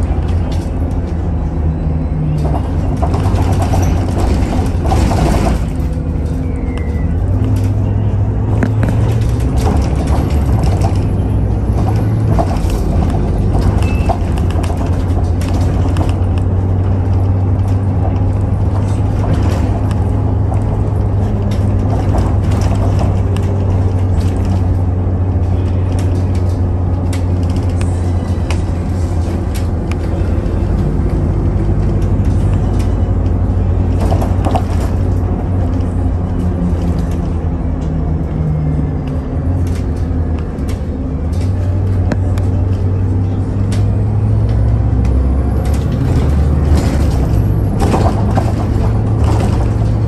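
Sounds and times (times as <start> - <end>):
train running with low hum: 0.0 - 50.0.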